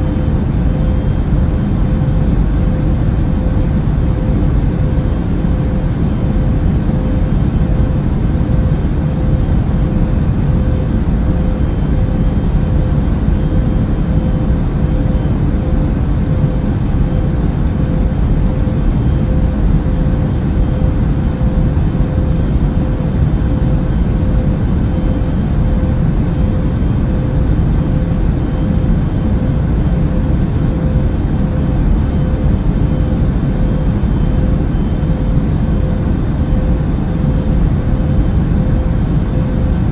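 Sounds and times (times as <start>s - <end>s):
airplane cabin engine noise: 0.0s - 39.9s
faint constant hum: 0.0s - 39.9s.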